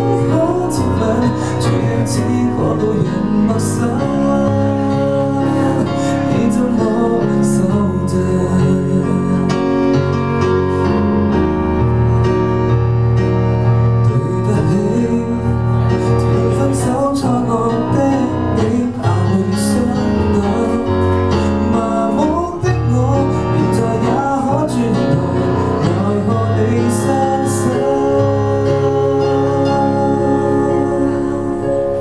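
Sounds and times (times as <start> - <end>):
man singing into microphone: 0.0 - 10.2, 13.9 - 32.0
keyboard chords: 0.0 - 32.0.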